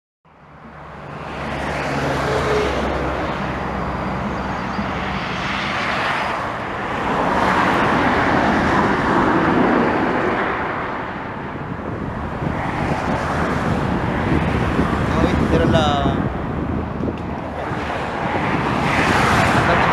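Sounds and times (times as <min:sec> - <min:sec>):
road traffic: 0:00.2 - 0:19.9
jet engine roar: 0:00.8 - 0:19.9.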